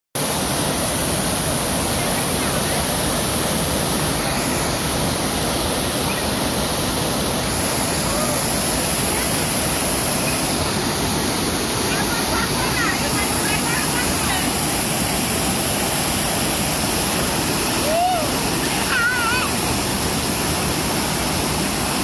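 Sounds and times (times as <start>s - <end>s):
waterfall rushing: 0.2s - 22.0s.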